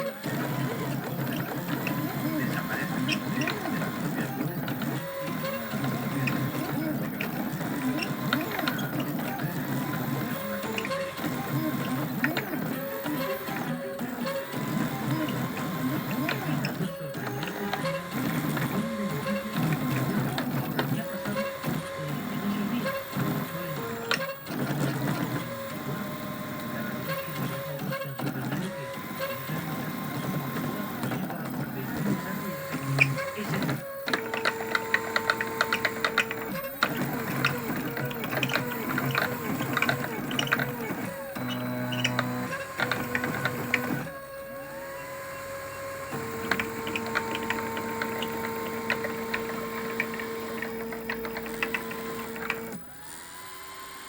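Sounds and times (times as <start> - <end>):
stepper motors whining: 0.0 - 54.0.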